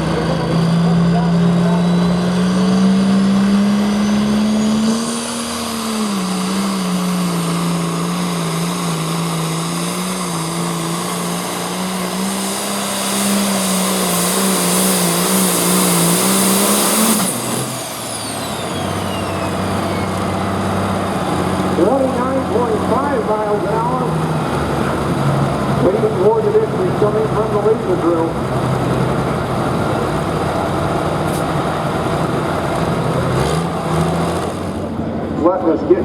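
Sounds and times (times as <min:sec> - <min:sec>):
turbocharger whine winding down: 0:00.0 - 0:33.2
diesel engine running under load: 0:00.0 - 0:36.0.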